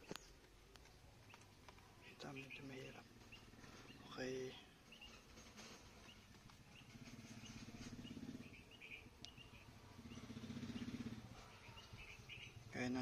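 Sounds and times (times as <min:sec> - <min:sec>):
bird chirps: 0:01.2 - 0:13.0.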